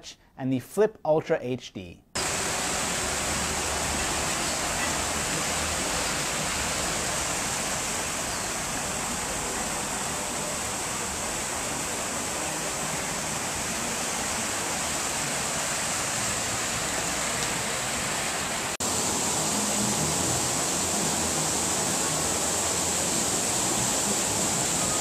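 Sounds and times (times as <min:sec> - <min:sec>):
fountain water splashing: 0:02.2 - 0:25.0.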